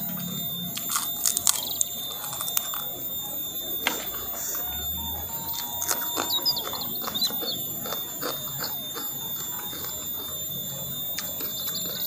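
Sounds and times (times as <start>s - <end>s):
people chewing and eating: 0.0s - 12.0s.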